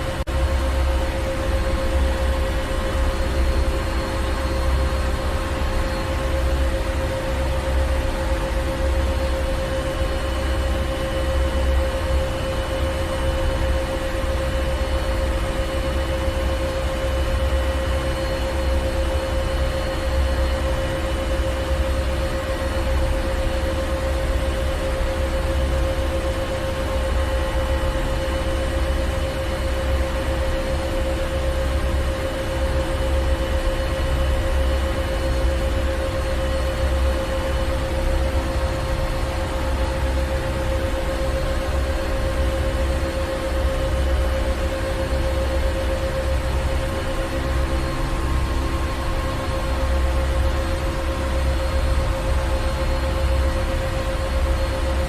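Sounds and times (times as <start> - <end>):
engine room machinery rumble: 0.0 - 55.0.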